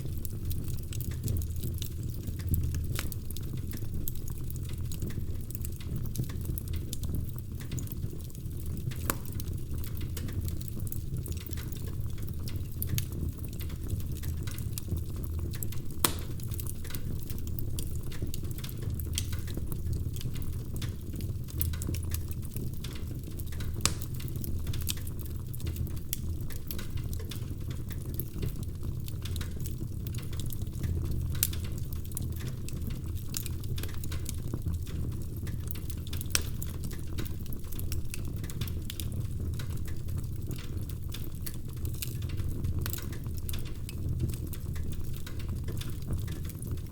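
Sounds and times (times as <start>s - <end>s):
fire crackling: 0.0s - 46.9s
fire rumbling: 0.0s - 46.9s.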